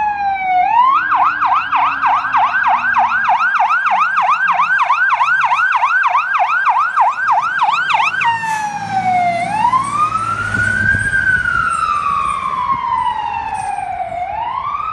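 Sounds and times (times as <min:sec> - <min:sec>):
emergency siren yelp and wail: 0:00.0 - 0:14.9.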